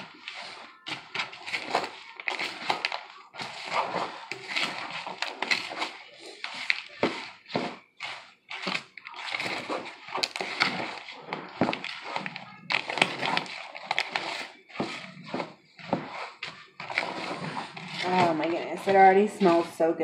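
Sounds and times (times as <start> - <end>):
utensil scraping plastic bowl: 0.0 - 20.0.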